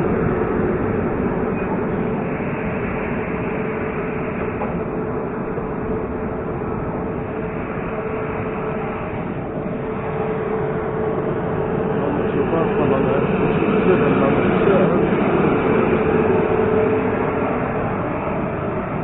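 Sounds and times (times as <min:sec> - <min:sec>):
steady hum: 0:00.0 - 0:19.0
train running rumble: 0:00.0 - 0:19.0.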